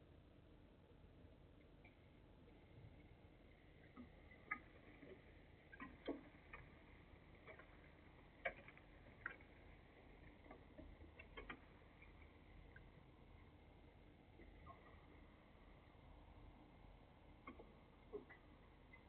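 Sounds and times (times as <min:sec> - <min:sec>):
low background hum: 0:00.0 - 0:19.0
faint clicks and ticks: 0:00.1 - 0:19.0.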